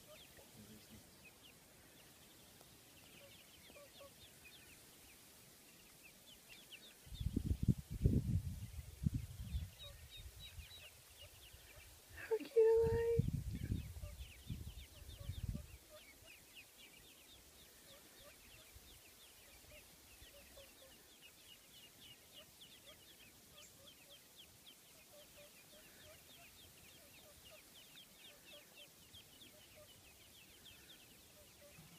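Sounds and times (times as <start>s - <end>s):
ducklings peeping: 0.0s - 31.9s.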